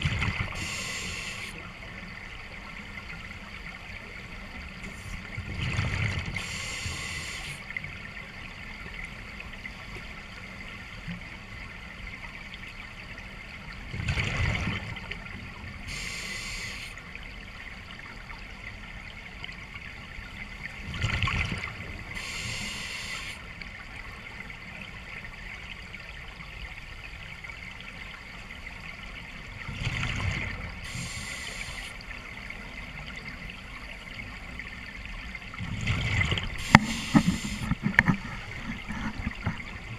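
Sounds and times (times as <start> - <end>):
low surge of water: 0.0 - 12.3, 13.5 - 39.9
water trickling: 0.0 - 39.9.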